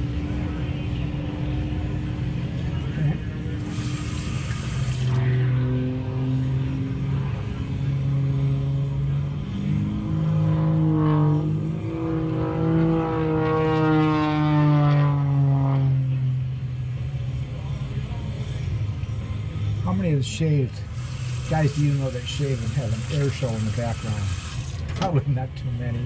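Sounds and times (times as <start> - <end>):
propeller airplane engine droning: 0.0 - 26.0.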